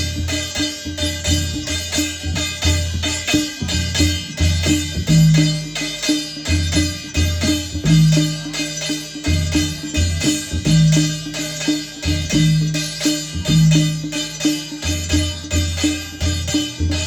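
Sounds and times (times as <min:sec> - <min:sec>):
folk drums beating: 0:00.0 - 0:17.0.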